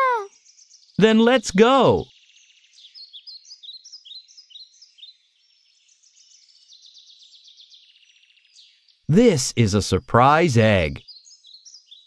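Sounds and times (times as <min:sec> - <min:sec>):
faint birdsong chirping and trilling: 0:00.2 - 0:09.1, 0:11.0 - 0:12.0.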